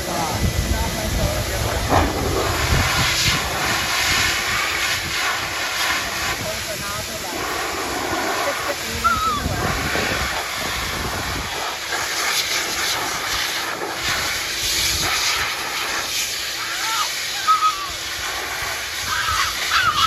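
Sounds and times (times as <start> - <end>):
dog dryer blowing air: 0.0 - 20.0.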